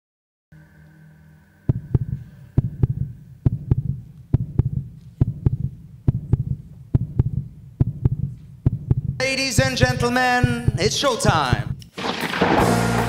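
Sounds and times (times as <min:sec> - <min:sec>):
deep heartbeat-like thumps: 0:01.7 - 0:13.0.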